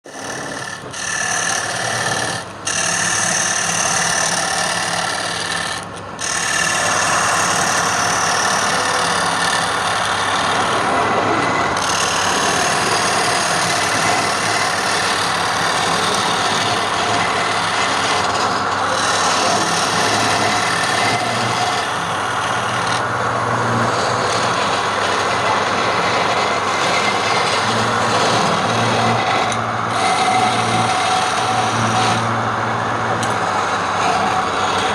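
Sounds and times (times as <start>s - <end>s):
lathe tool scraping spinning wood: 0.0s - 34.9s
low motor hum: 0.1s - 34.9s.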